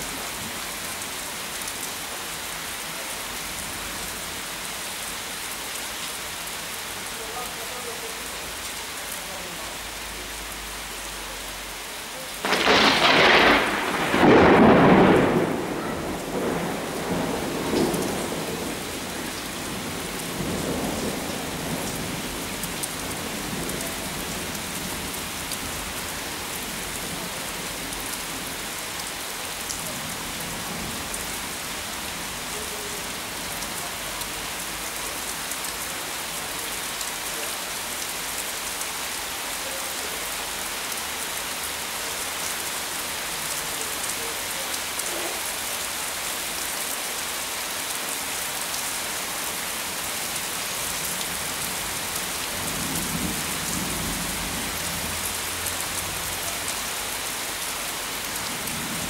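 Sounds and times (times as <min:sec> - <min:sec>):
rain on leafy tree: 0:00.0 - 0:59.0.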